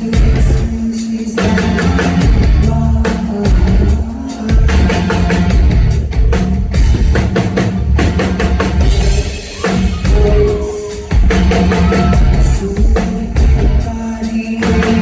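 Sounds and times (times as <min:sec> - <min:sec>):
bass drum: 0:00.0 - 0:14.1
live rock band playing: 0:00.0 - 0:15.0.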